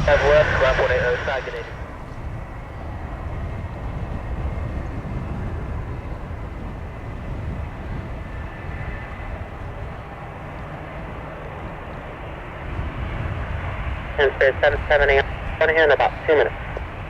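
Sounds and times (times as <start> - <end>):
distant jet engines whining: 0.0 - 17.0
wind buffeting microphone: 0.0 - 17.0.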